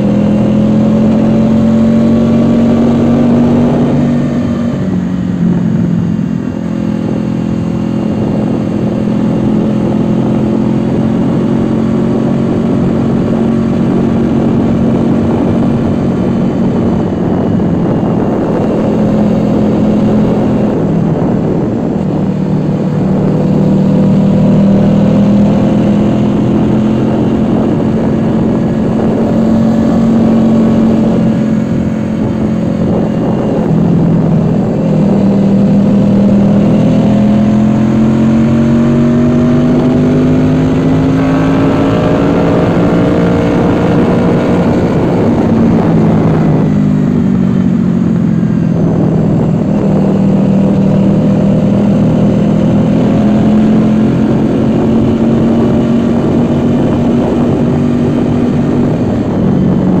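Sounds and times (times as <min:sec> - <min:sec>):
motorcycle engine: 0:00.0 - 1:00.0
wind rush: 0:00.0 - 1:00.0.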